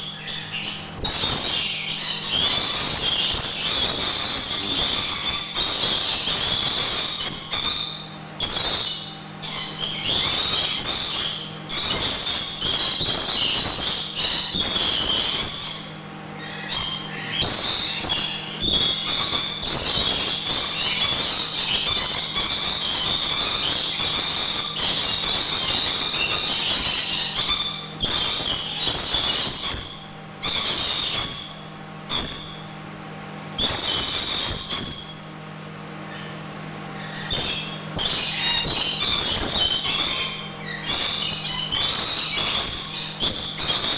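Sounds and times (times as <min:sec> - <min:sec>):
parrots screeching and chattering: 0:00.0 - 0:32.8, 0:33.6 - 0:35.4, 0:36.1 - 0:43.9.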